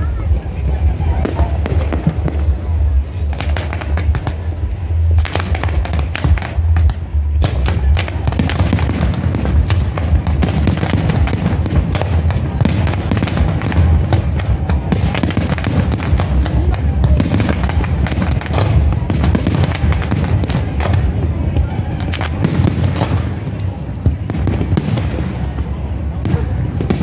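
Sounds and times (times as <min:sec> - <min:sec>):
fireworks popping and crackling: 0:00.0 - 0:27.0
heavy low rumble: 0:00.0 - 0:27.0.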